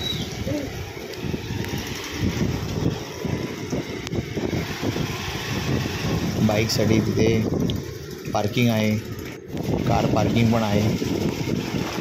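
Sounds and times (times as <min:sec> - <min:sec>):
vehicle rumbling on rough road: 0:00.0 - 0:12.0.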